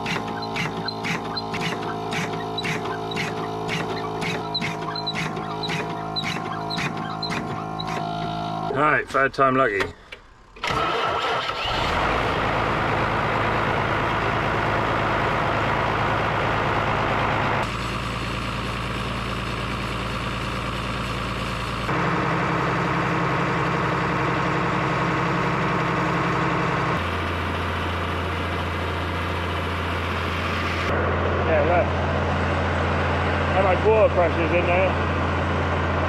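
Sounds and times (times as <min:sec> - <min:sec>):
diesel pump engine running: 0:00.0 - 0:36.0.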